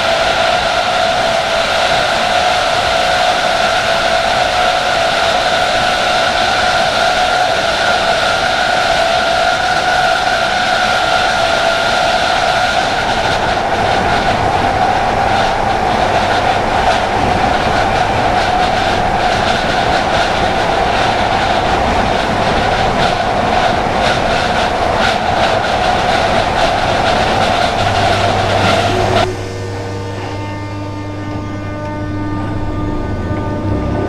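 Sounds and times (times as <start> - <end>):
train traction motors whining: 0.0 - 34.0
train wheels rumbling: 0.0 - 34.0.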